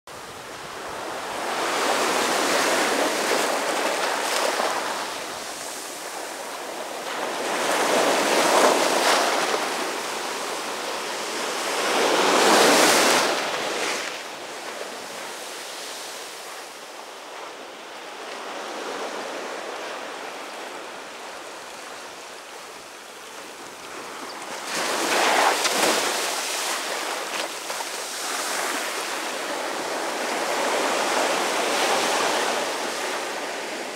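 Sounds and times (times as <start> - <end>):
sea surf breaking on beach: 0.1 - 33.9.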